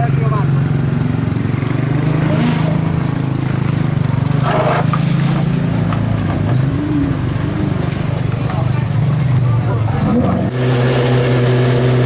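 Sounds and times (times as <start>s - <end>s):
race car engine idling: 0.0s - 11.2s.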